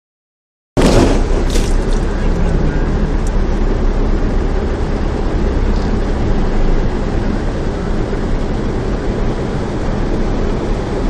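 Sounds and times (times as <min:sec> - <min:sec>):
heavy rain: 0:00.8 - 0:11.0
low vehicle rumble: 0:00.8 - 0:11.0.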